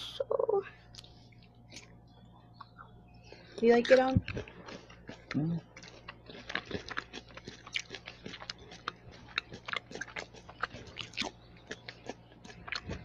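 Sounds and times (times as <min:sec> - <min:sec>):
chewing coconut crunches: 0:02.6 - 0:13.0.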